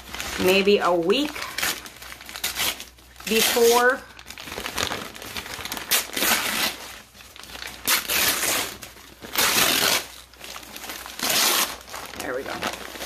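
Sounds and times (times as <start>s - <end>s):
paper crinkling and tearing: 0.0s - 13.0s.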